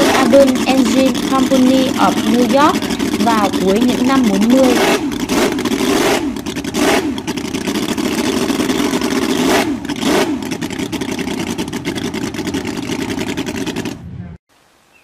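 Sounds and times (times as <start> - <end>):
model engine running fast: 0.0 - 14.1.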